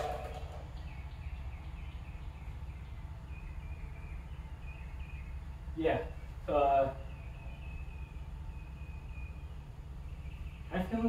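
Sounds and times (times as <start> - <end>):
low background hum: 0.0 - 11.0
faint bird chirps: 0.1 - 11.0.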